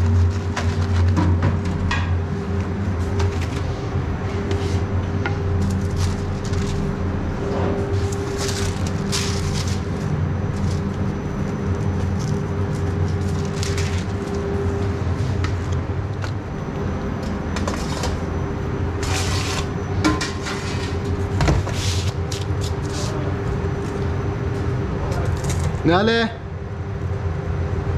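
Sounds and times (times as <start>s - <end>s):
kitchen equipment hum: 0.0s - 27.9s.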